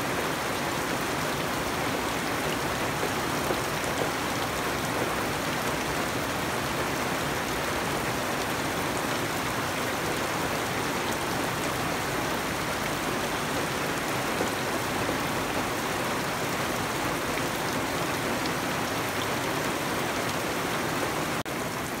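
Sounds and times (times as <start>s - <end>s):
rain on foliage: 0.0s - 22.0s.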